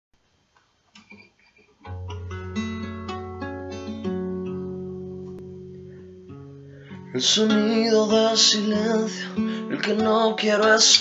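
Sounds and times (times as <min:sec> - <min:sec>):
acoustic guitar notes ringing: 0:01.8 - 0:11.0.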